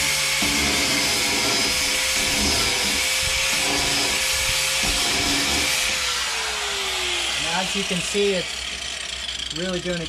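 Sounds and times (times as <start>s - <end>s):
sanding disc hissing on rusty metal: 0.0s - 6.5s, 7.2s - 10.0s
grinder running: 0.0s - 10.0s.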